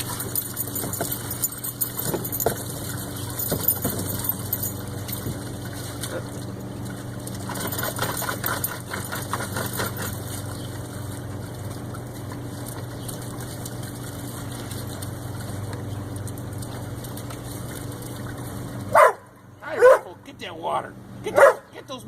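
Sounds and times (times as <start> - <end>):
water splashing: 0.0 - 20.2
low machine hum: 0.0 - 22.0.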